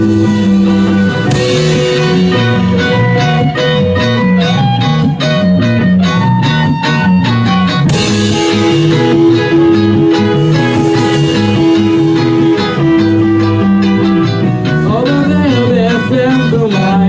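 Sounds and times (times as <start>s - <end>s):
instrumental rock music with guitars: 0.0s - 17.0s.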